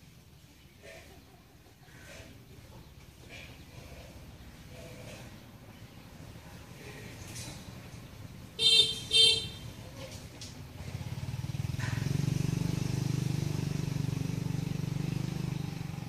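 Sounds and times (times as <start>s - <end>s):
vehicle engine running: 1.9s - 16.0s.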